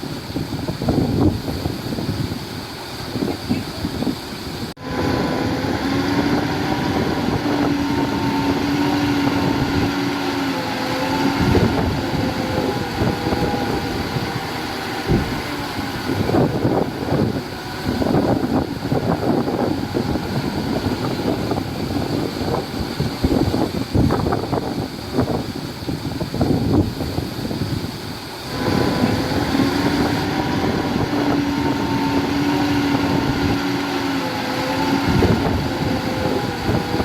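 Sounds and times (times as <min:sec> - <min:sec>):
heavy machinery diesel engine: 0:00.0 - 0:37.0
steady whine: 0:00.0 - 0:37.0
wind buffeting microphone: 0:00.0 - 0:37.0.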